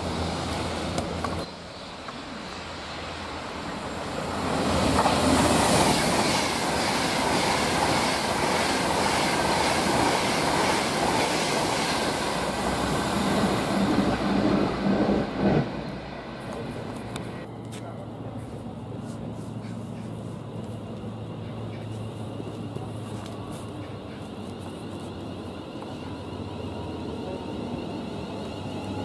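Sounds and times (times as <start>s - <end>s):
electric train passing at speed: 0.0s - 29.0s.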